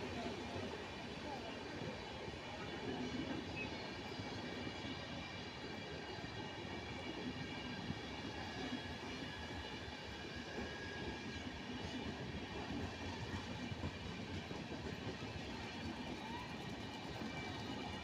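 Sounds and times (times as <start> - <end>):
train wheels rolling on rails: 1.8 - 18.0.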